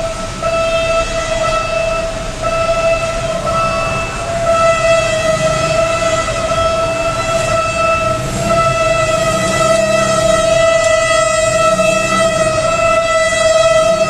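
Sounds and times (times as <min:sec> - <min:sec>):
locomotive engine rumble: 0:00.0 - 0:14.0
train horn long tone: 0:00.0 - 0:14.0.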